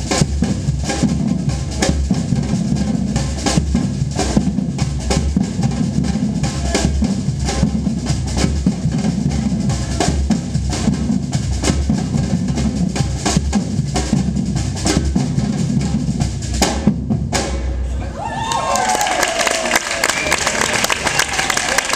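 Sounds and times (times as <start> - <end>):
rapid snare drum hits: 0.0 - 17.8
deep bass drums: 0.0 - 18.0.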